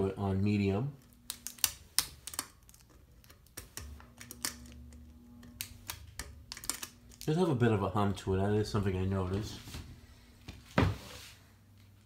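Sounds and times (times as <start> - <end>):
fan motor humming: 0.0 - 12.0.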